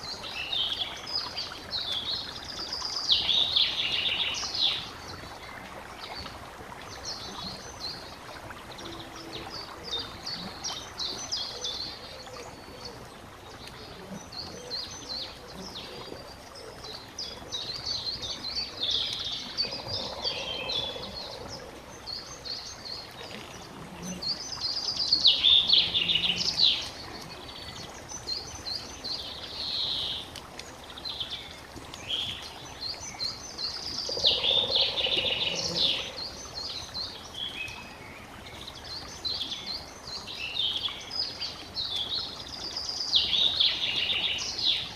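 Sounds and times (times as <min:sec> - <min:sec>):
songbirds singing and chirping: 0:00.0 - 0:44.9.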